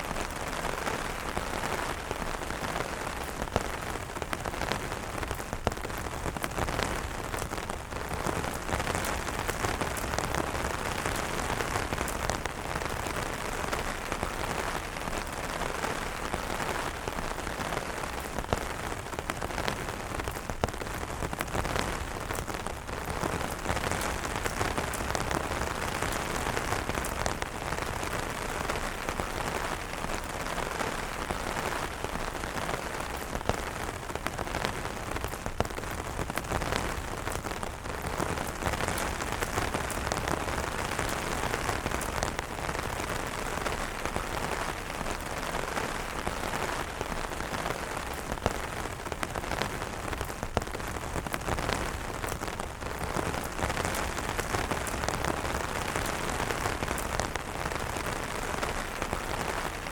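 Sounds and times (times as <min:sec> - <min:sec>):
rain on umbrellas: 0:00.0 - 0:59.9.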